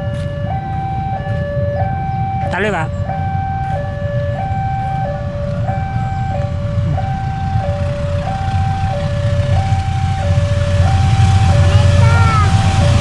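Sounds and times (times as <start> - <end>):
level-crossing alarm two-tone: 0.0 - 13.0
low rumble: 0.6 - 13.0.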